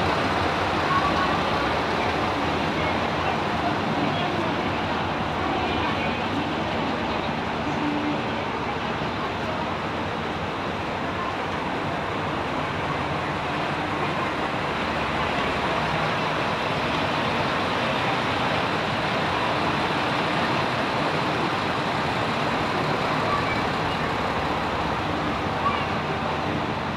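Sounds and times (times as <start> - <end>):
train running rumble: 0.0 - 26.9.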